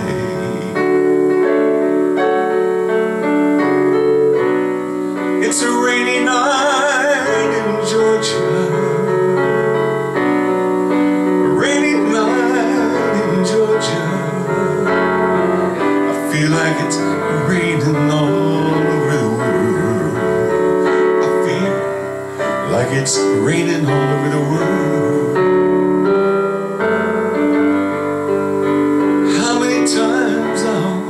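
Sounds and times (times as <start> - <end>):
digital piano ballad chords: 0.0 - 31.0.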